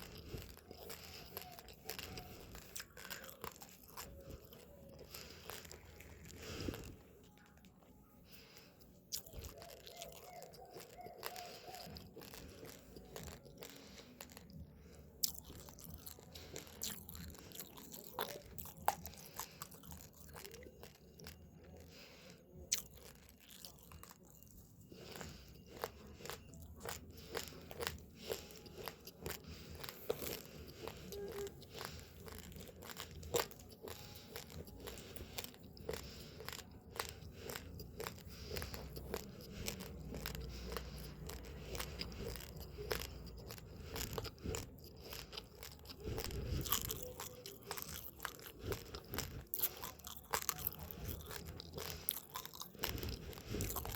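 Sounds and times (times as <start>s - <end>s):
person chewing uncooked rice: 0.0s - 53.9s.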